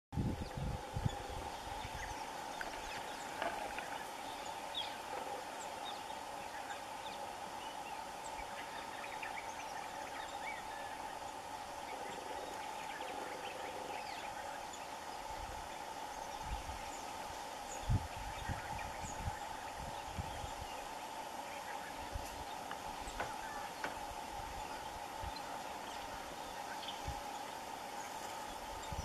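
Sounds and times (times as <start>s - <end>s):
steady mid-pitched hum: 0.2s - 29.0s.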